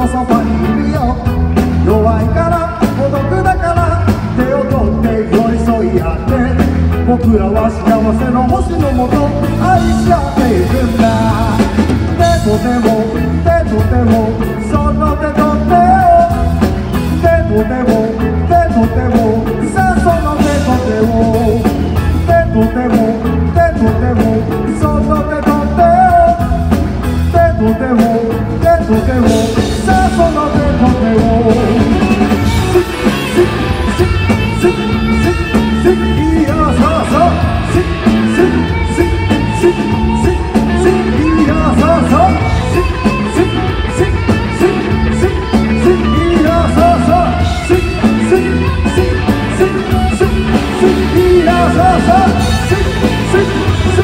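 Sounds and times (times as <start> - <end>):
live rock band playing: 0.0 - 54.0
male vocalist singing: 0.0 - 54.0.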